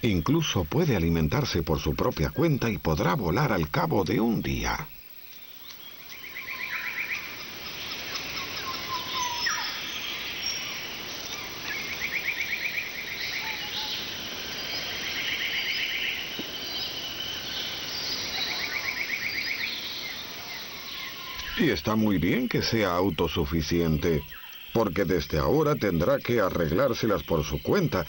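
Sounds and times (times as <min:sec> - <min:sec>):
background hiss: 0:00.0 - 0:28.0
rapid bird trill: 0:00.0 - 0:28.0
small birds chirping and whistling: 0:00.0 - 0:28.0.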